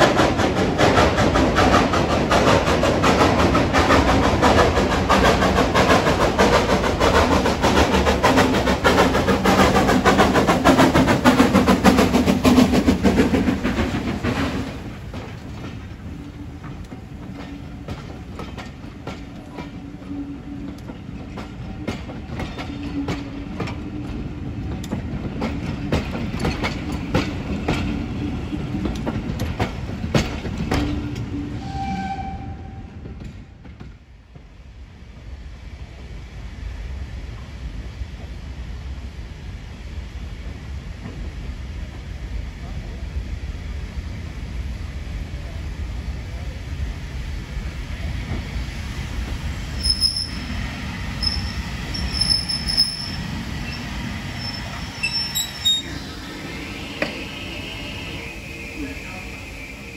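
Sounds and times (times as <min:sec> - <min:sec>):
steam locomotive passing: 0:00.0 - 0:59.9.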